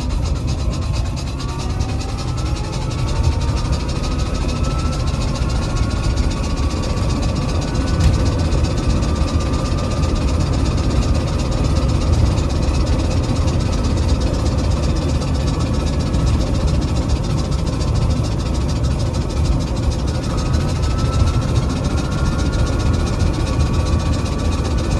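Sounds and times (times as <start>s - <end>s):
engine and road rumble: 0.0s - 24.9s.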